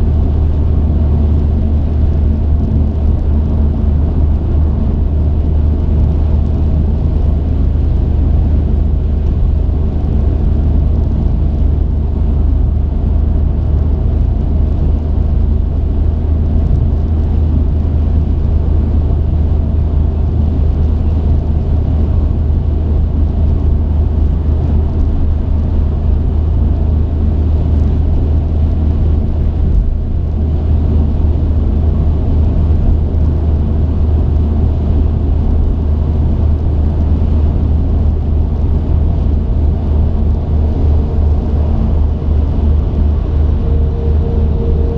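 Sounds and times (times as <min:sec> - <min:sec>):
truck engine and road noise: 0:00.0 - 0:44.9.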